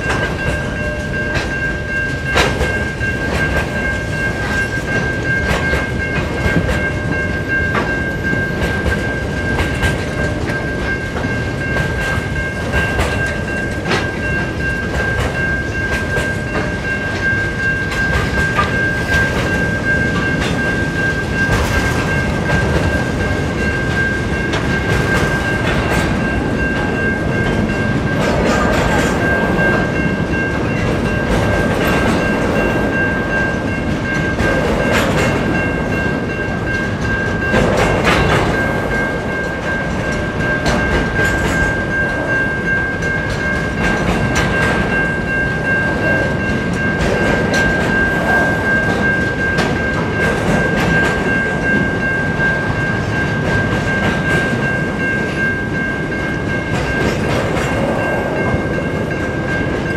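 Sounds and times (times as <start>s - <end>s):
high ringing tone: 0.0s - 59.9s
train wheels rumbling on rails: 0.0s - 59.9s
wheels clicking over rail joints: 0.0s - 59.9s.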